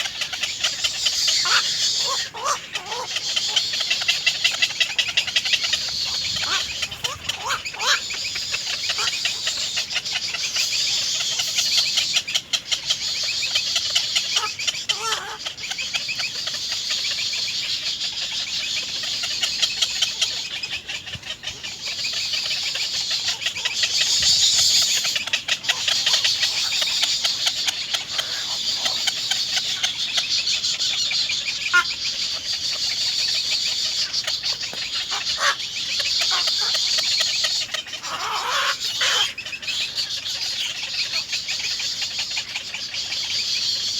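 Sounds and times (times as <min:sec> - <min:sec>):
nestling birds cheeping: 0:00.0 - 0:43.9.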